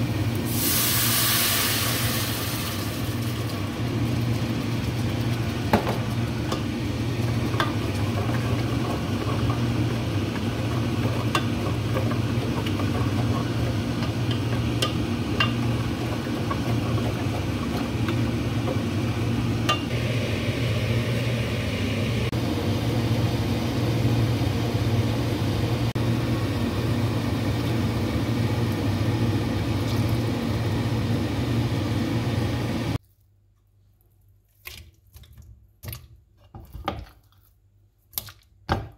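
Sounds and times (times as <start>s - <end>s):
sauce boiling in a pot: 0.0s - 33.0s.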